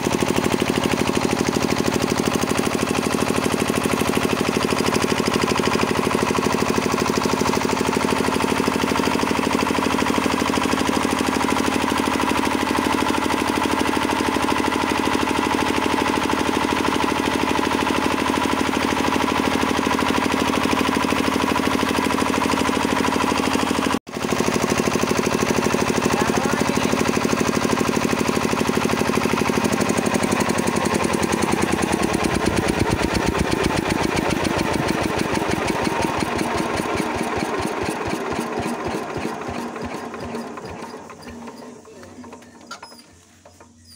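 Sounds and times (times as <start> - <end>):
diesel generator engine knocking: 0.0 - 43.9.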